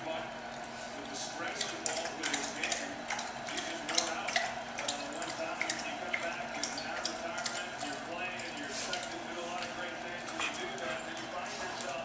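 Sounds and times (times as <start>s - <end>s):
dog lapping water: 0.6s - 12.0s.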